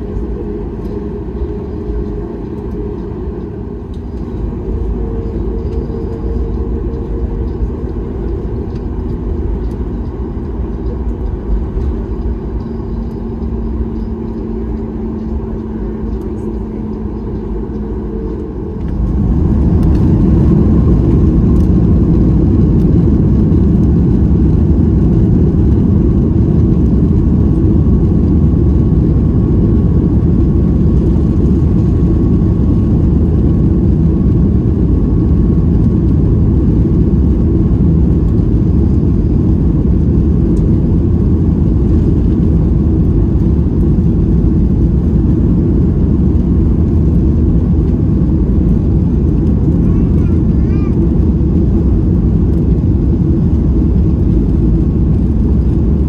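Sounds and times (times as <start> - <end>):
jet engines spooling up: 0.0 - 56.0.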